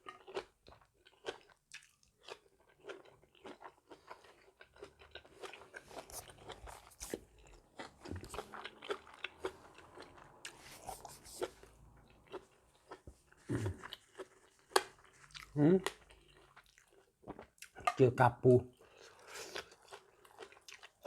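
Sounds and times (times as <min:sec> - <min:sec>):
person chewing and crunching: 0:00.0 - 0:18.0, 0:18.7 - 0:21.0.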